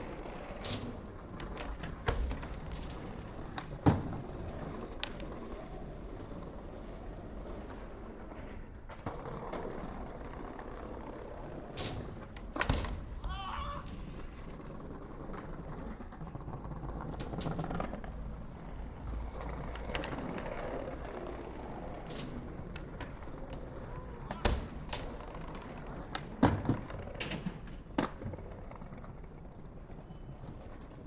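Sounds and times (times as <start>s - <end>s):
skateboard clacking on ground: 0.0s - 31.0s
skateboard wheels rolling on pavement: 0.0s - 31.0s.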